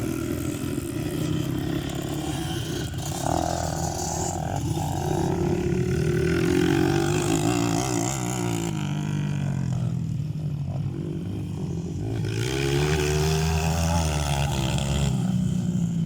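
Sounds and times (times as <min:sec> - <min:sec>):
motorbike engines revving: 0:00.0 - 0:16.0.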